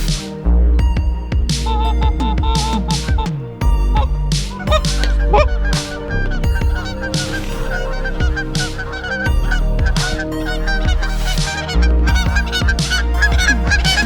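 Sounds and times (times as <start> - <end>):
background music with deep bass: 0.0 - 14.0
geese honking: 1.6 - 14.0.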